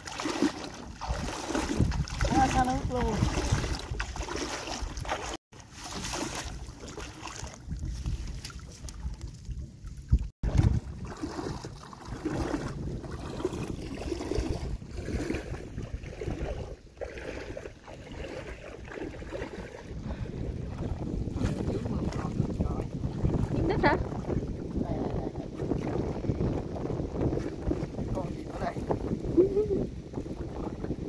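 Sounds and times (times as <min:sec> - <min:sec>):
wind buffeting microphone: 0:00.0 - 0:05.4, 0:06.0 - 0:31.0
water splashing around legs: 0:00.0 - 0:29.7.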